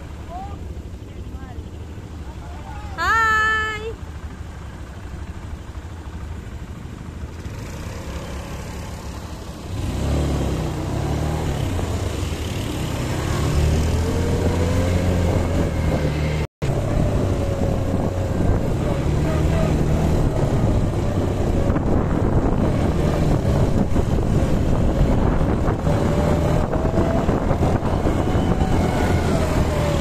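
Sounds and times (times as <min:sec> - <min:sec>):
quad bike engines running: 0:00.0 - 0:30.0.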